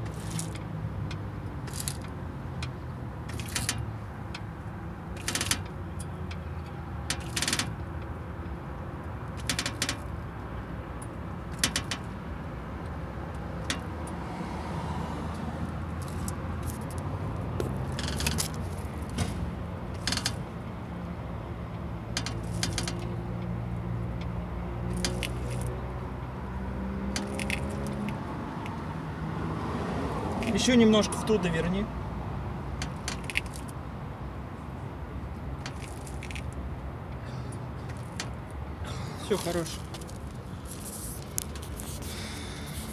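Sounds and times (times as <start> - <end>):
suspension creaking clicks: 0.0 - 14.2, 15.3 - 28.9, 30.2 - 31.1, 32.6 - 42.9.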